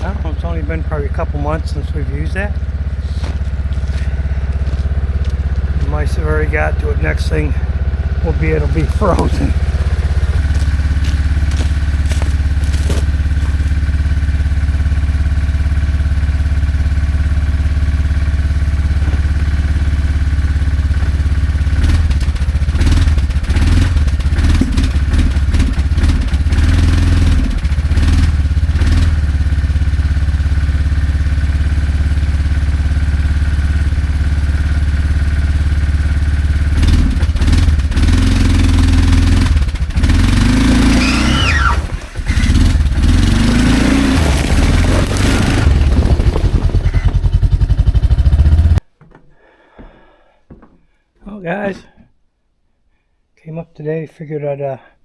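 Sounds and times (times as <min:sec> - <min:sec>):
atv engine running: 0:00.0 - 0:48.8.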